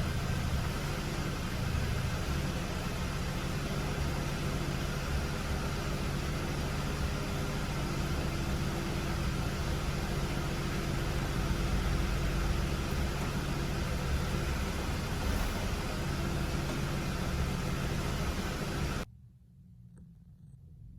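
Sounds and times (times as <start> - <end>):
car engine idling: 0.0 - 19.1.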